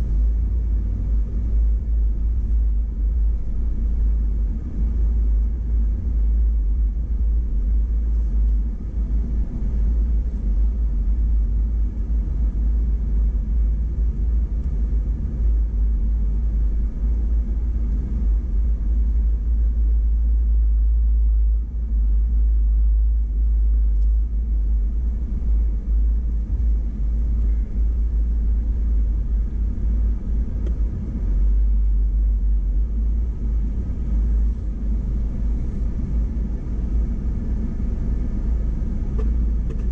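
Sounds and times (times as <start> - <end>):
vehicle engine rumble on dirt trail: 0.0 - 39.9.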